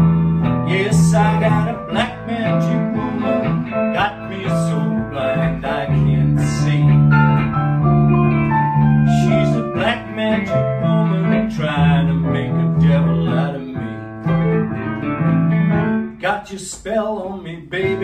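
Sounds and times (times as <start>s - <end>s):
piano playing melody: 0.0s - 16.2s
guitar: 0.0s - 18.0s.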